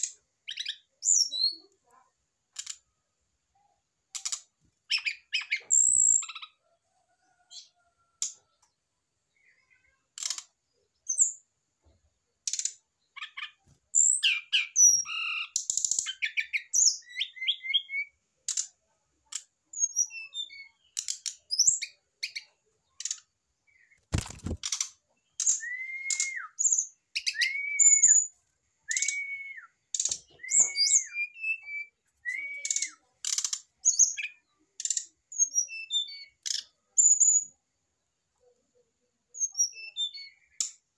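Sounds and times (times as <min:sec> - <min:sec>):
bird chirping song: 0:00.0 - 0:02.9, 0:03.5 - 0:40.9.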